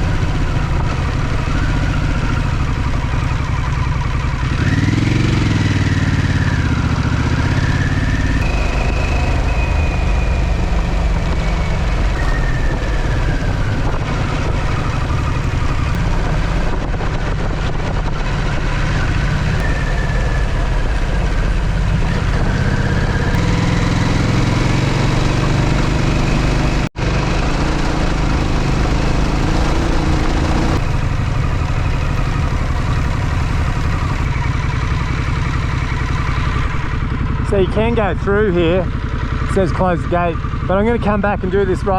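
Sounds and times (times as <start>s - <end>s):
motorcycle engine running: 0.0s - 41.9s
wind and road noise: 0.0s - 41.9s.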